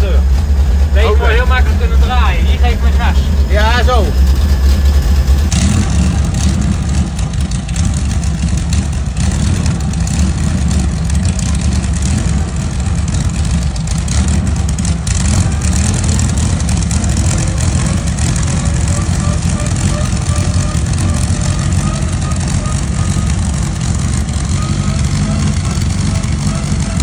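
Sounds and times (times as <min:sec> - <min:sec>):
helicopter piston engine running: 0:00.0 - 0:27.0.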